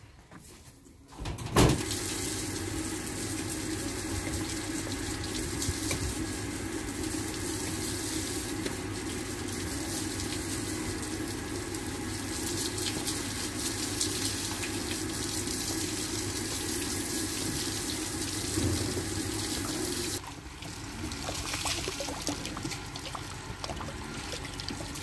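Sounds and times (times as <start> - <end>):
hose water spraying and splashing: 1.8 - 25.0.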